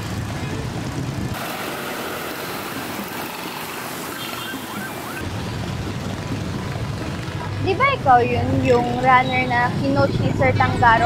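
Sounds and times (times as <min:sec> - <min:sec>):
passing traffic: 0:00.0 - 0:11.0.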